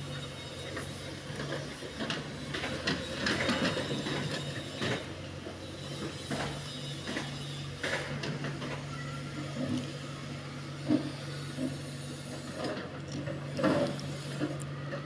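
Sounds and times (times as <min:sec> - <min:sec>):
digger bucket clanking and scraping: 0:00.0 - 0:10.0, 0:10.7 - 0:15.0
diesel engine running: 0:00.0 - 0:15.0.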